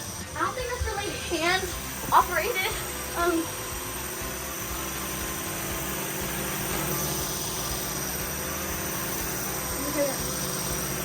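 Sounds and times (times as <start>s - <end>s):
toy drone propeller whirring: 0.0s - 11.0s.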